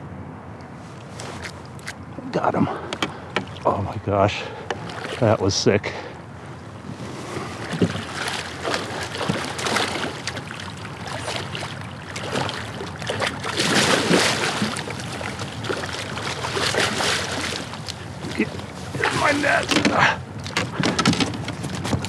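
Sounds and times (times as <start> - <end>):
water splashing around a kayak: 0.9 - 22.0.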